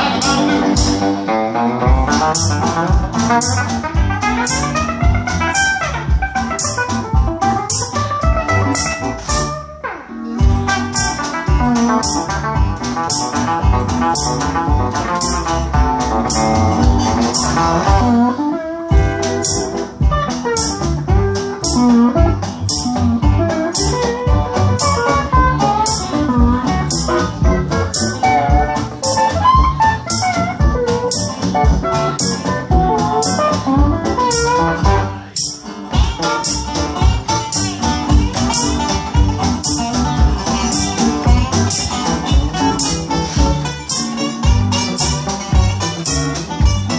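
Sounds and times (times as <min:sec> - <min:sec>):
steady drum beat: 0:00.0 - 0:09.6, 0:10.4 - 0:18.2, 0:18.9 - 0:46.9
electric guitar: 0:00.0 - 0:46.9
steel guitar sliding lead: 0:00.0 - 0:46.9
upright bass: 0:00.0 - 0:46.9.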